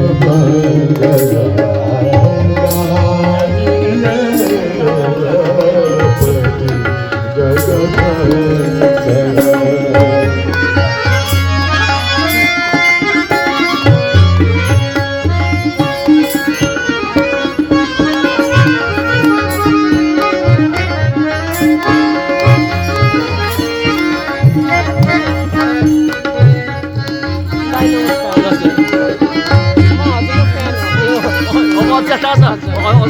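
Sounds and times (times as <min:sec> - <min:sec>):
melodic line of held notes: 0:00.0 - 0:33.0
tabla drumming: 0:00.0 - 0:33.0.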